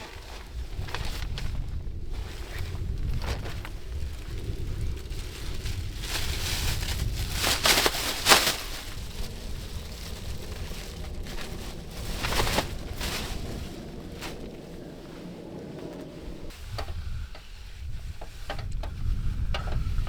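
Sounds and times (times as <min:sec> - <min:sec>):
rustling handling noise: 0:00.0 - 0:18.8
wind rumbling on microphone: 0:00.0 - 0:20.0.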